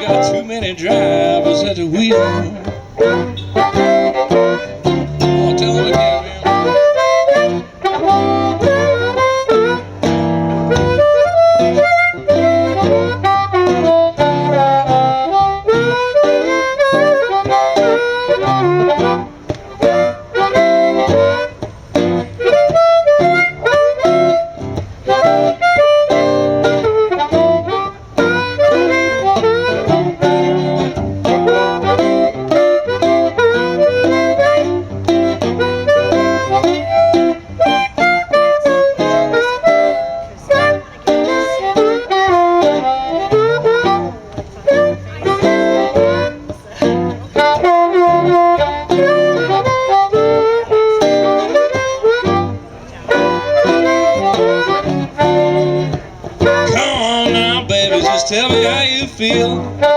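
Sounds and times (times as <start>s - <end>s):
harmonica solo: 0.0s - 59.9s
rhythmic guitar accompaniment: 0.0s - 59.9s.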